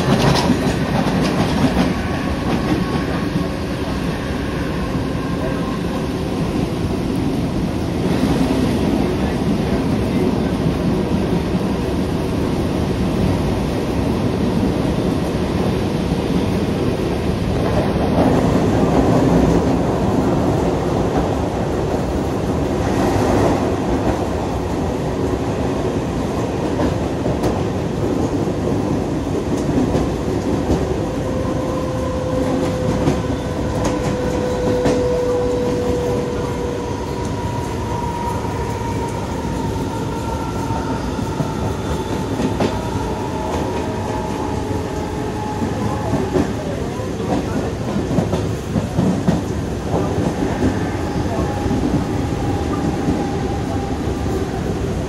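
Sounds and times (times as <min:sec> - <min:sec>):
train rumbling: 0:00.0 - 0:55.0
train whine: 0:00.0 - 0:55.0.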